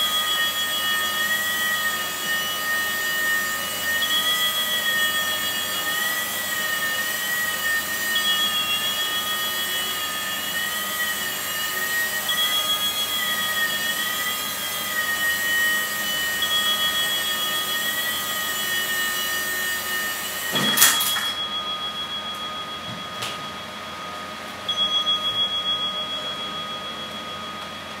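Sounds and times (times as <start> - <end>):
toy helicopter motors whining: 0.0 - 23.0.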